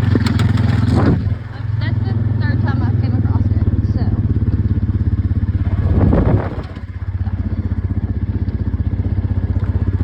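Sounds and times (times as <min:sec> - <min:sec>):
farm vehicle engine pulsing: 0:00.0 - 0:10.0.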